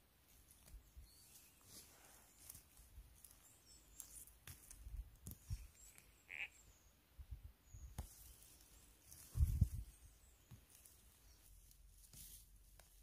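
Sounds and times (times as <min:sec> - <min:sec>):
rustles and clicks on forest floor: 0:00.0 - 0:06.9, 0:07.6 - 0:13.0.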